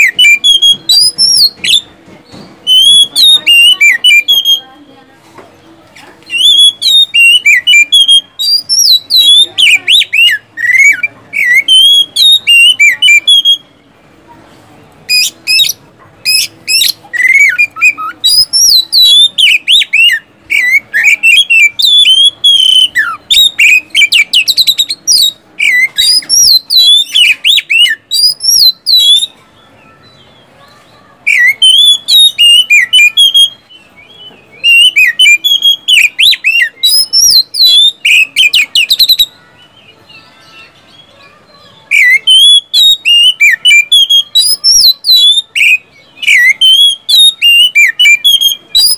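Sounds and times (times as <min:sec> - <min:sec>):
magpie-robin singing whistles: 0:00.0 - 0:04.7, 0:06.2 - 0:13.8, 0:15.1 - 0:29.4, 0:31.2 - 0:40.8, 0:41.9 - 0:48.9.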